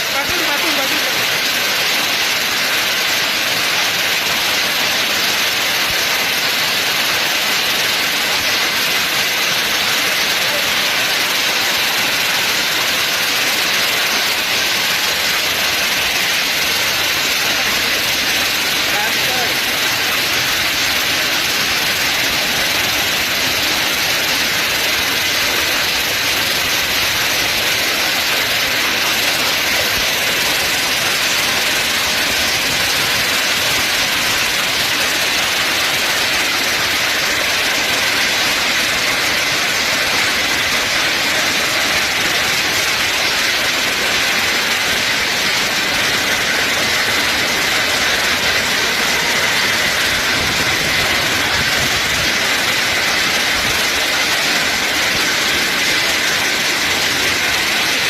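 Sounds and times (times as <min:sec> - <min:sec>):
windstorm with hail and rain: 0:00.0 - 0:58.0.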